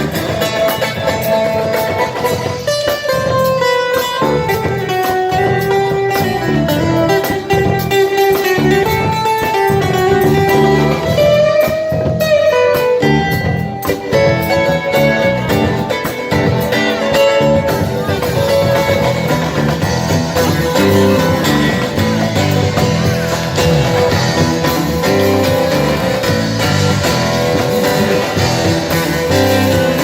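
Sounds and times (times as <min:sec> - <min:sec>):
guitar melody with bending notes: 0:00.0 - 0:30.0
steady beat and bass: 0:00.0 - 0:30.0.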